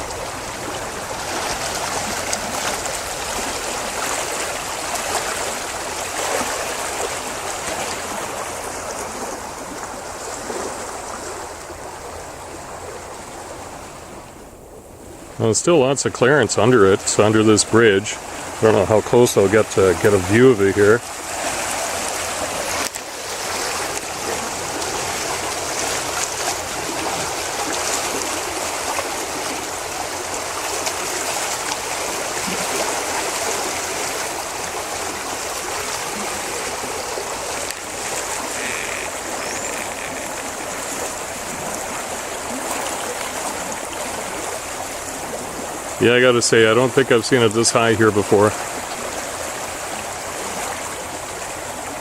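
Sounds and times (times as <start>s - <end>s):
fast water rushing: 0.0s - 52.0s.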